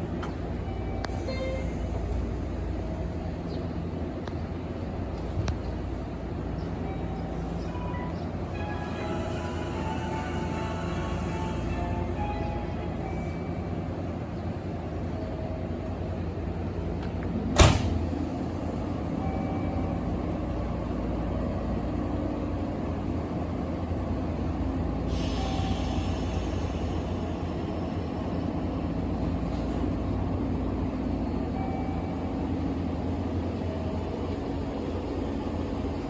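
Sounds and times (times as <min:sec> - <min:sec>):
electric train humming: 0:00.0 - 0:36.0.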